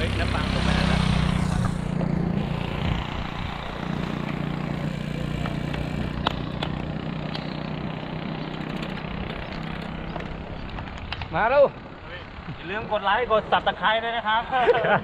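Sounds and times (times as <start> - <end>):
engine idling: 0.0 - 14.4.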